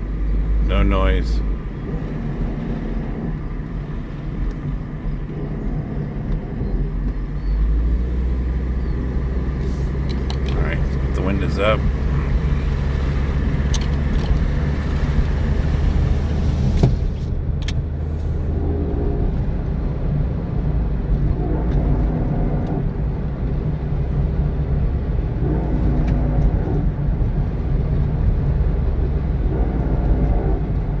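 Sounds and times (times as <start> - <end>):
droning grind: 0.0 - 17.3, 18.0 - 31.0
road and engine noise: 0.0 - 31.0.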